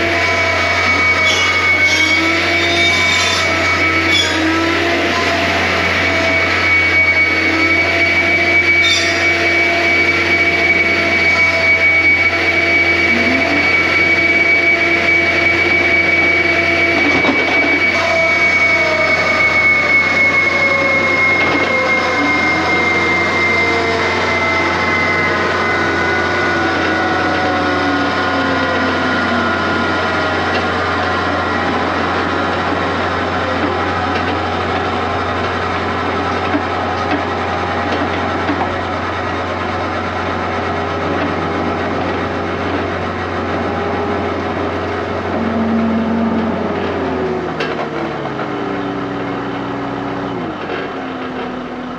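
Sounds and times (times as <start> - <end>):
diesel engine under load: 0.0 - 51.9
high steady hydraulic whine: 0.0 - 51.9.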